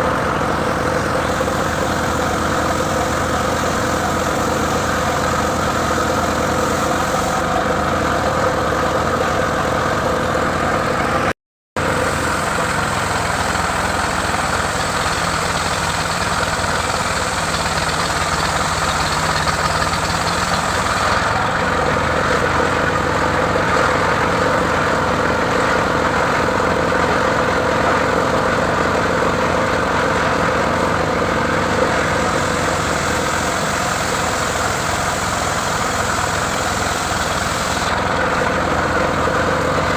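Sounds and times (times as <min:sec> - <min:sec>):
saw engine running: 0:00.0 - 0:39.9.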